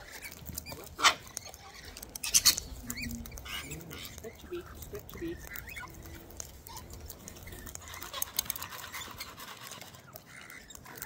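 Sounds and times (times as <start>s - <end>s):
birds crunching seed: 0.0s - 11.0s
soft bird calls: 0.0s - 11.0s.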